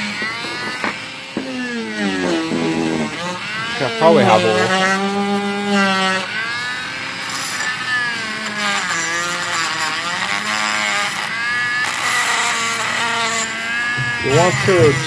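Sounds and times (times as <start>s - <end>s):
rotary tool whine: 0.0s - 15.0s.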